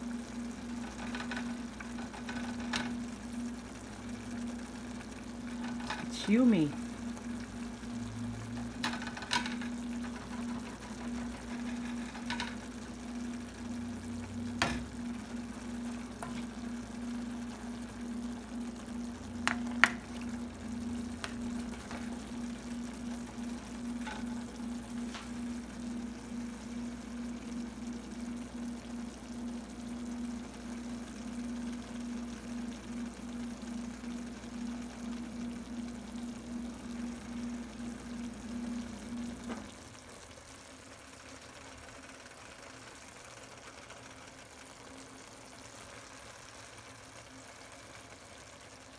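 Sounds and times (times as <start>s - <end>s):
steady low hum: 0.0s - 44.1s
sauce simmering and bubbling: 0.0s - 48.9s.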